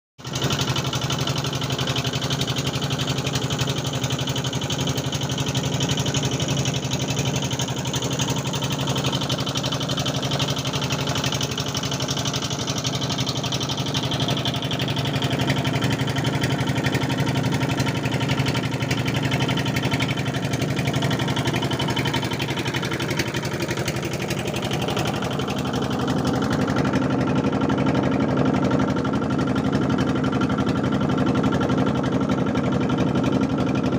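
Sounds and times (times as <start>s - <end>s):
motor running steadily: 0.2s - 33.9s.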